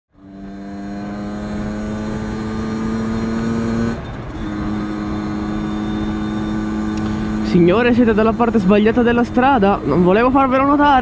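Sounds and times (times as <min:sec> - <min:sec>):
two-stroke motorcycle engine revving: 0:00.1 - 0:11.0.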